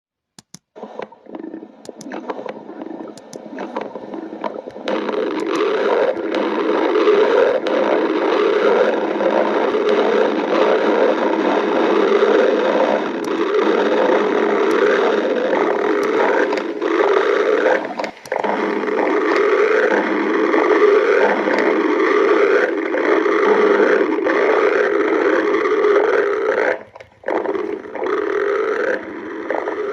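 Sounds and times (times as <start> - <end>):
stomach growling: 0.8 - 29.9.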